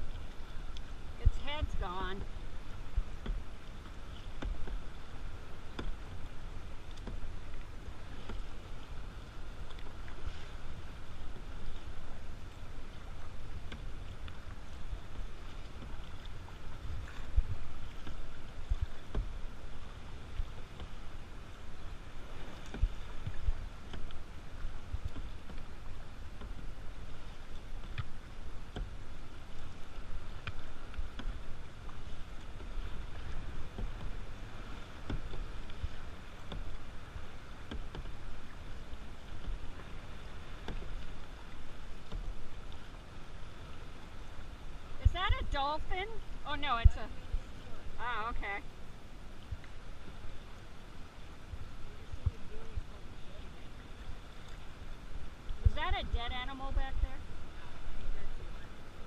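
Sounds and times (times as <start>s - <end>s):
paddle splashes and knocks: 0.0s - 59.0s
wind and water rumble: 0.0s - 59.0s.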